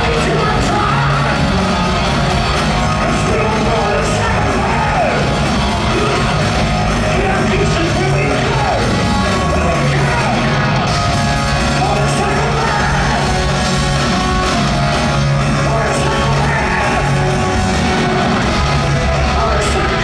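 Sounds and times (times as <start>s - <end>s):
heavy metal band playing live: 0.0s - 20.0s.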